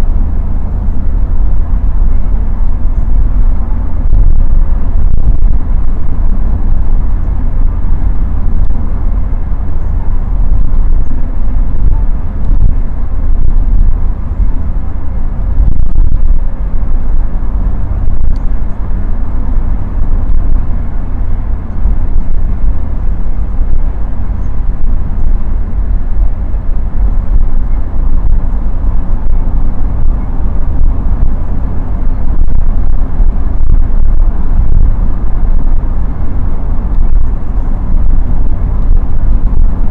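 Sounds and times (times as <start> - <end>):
car cabin engine rumble: 0.0 - 39.9.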